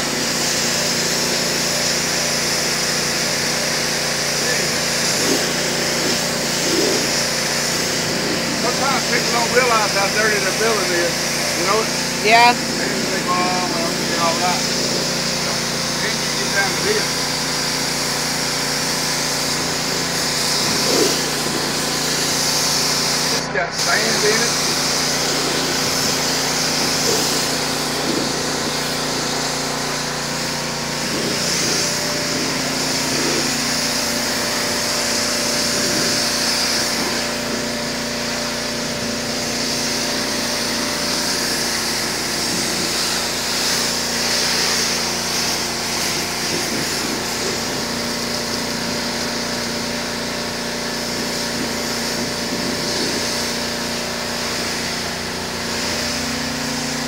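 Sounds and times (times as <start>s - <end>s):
pressure washer jet hissing: 0.0s - 57.0s
machine humming: 3.9s - 57.0s.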